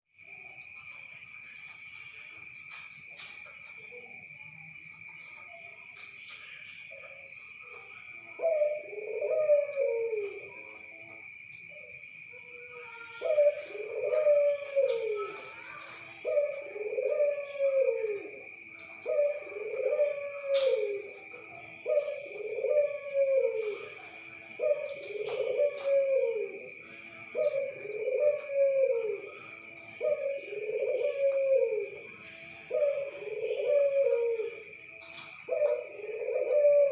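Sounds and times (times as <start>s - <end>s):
dove cooing: 0.2s - 36.9s.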